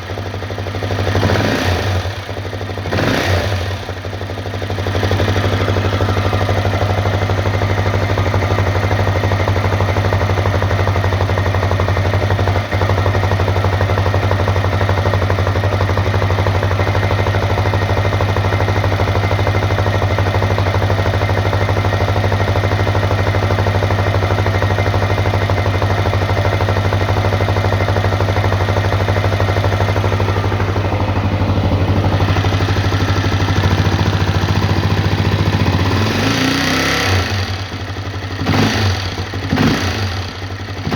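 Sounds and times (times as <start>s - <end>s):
engine knock: 0.0s - 40.9s
motorcycle engine idling: 0.0s - 40.9s.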